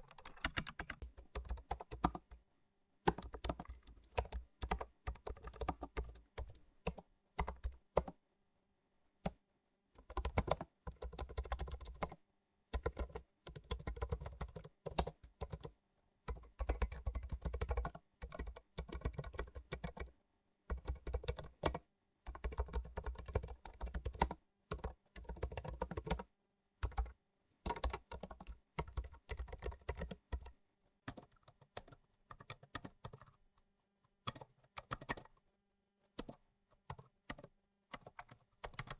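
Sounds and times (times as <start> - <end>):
computer keyboard typing: 0.0 - 2.4, 3.1 - 8.2, 10.0 - 20.1, 20.7 - 30.5, 31.1 - 33.4, 34.2 - 35.4, 36.2 - 38.9.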